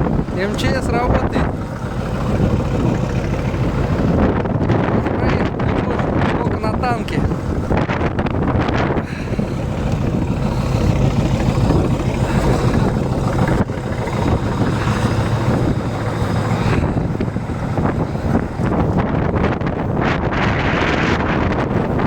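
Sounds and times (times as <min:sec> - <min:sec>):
blizzard wind: 0:00.0 - 0:22.0
vehicle engine rumbling: 0:00.0 - 0:22.0.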